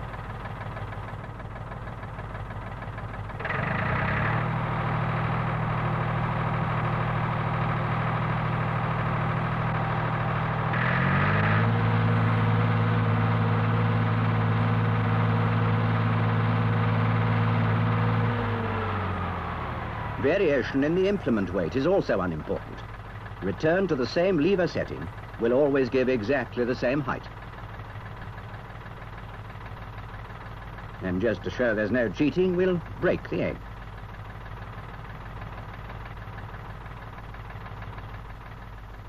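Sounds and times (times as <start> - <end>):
tractor engine changing revs: 3.0 - 38.8.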